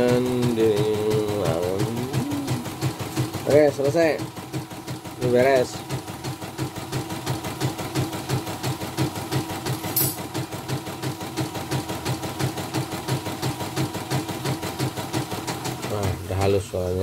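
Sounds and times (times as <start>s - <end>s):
embroidery machine stitching: 0.0s - 17.0s.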